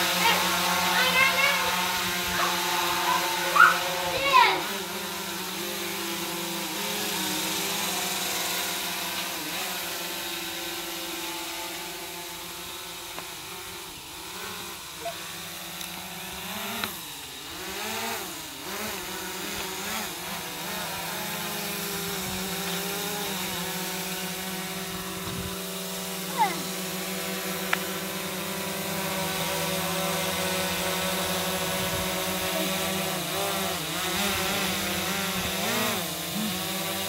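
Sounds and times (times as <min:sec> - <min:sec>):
drone propellers buzzing: 0:00.0 - 0:37.0.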